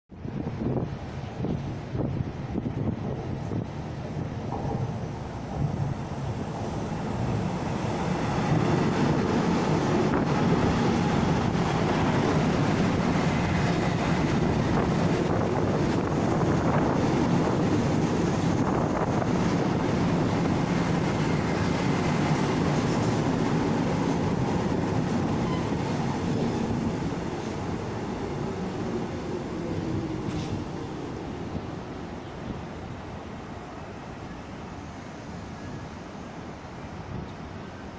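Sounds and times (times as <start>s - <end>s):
train wheels rumbling: 0.2s - 37.6s.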